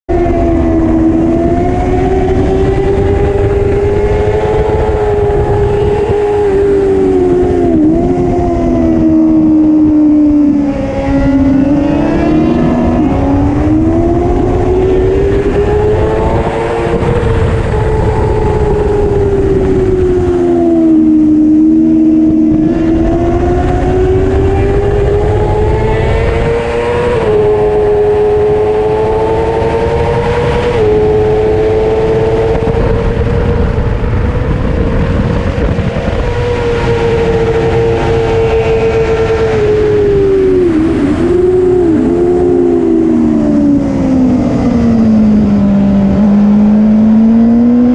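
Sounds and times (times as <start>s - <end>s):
racing motorcycle engine: 0.1s - 47.9s.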